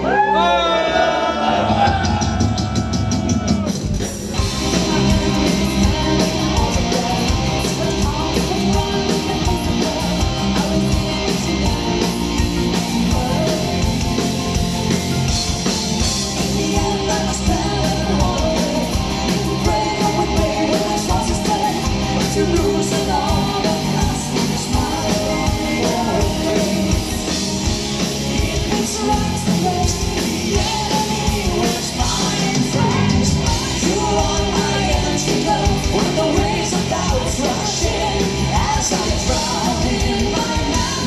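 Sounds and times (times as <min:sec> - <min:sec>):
metal band playing loud: 0:00.0 - 0:41.0.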